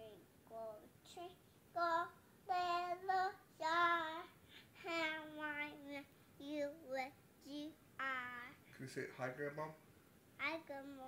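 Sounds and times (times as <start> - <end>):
young girl singing: 0.0 - 8.6, 10.4 - 11.0.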